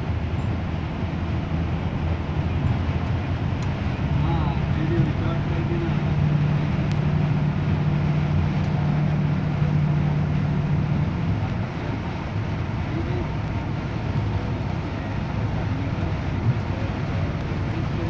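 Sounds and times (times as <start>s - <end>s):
rain on a car: 0.0s - 18.0s
wet tyre and road noise: 0.0s - 18.0s.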